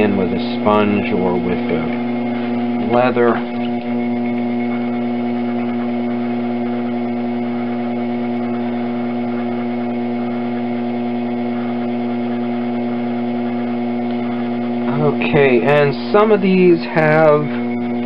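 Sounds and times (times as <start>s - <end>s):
pottery wheel motor hum: 0.0s - 18.0s.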